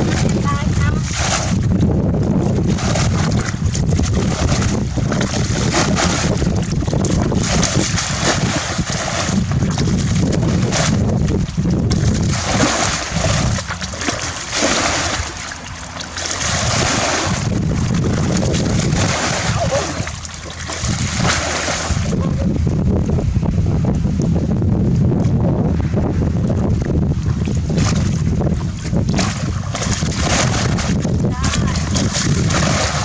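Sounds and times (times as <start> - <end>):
continuous low rumble: 0.0 - 33.0
water splashing and sloshing: 0.0 - 33.0.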